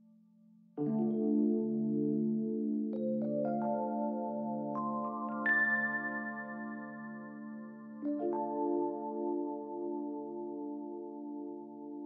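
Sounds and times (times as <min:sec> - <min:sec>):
soft ambient music: 0:00.8 - 0:12.0.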